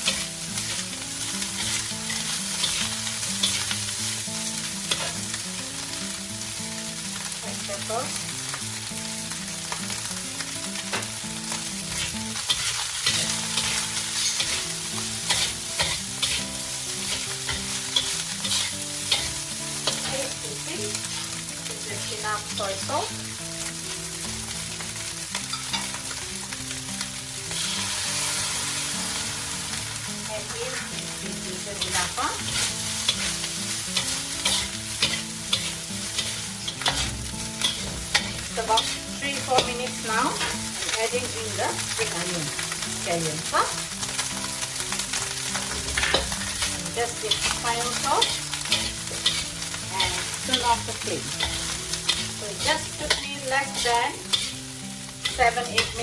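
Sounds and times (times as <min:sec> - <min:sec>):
utensil scraping and clinking wok: 0:00.0 - 0:08.6, 0:09.2 - 0:56.0
food sizzling in a wok: 0:00.0 - 0:56.0.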